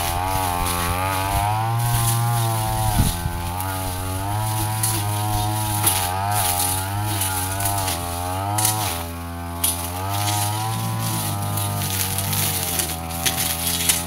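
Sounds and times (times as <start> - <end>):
brush cutter engine cutting scrub: 0.0 - 14.0.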